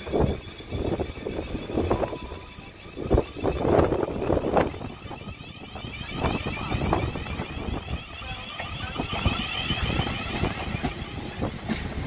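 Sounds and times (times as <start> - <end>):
electric train whine: 0.0 - 12.0
train low rumble: 0.0 - 12.0
wheels clicking on track: 0.0 - 12.0.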